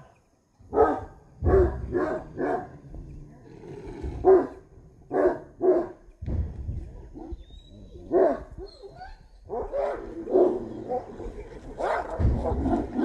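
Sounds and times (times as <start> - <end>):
dogs barking and snarling: 0.7 - 6.0, 7.1 - 13.0.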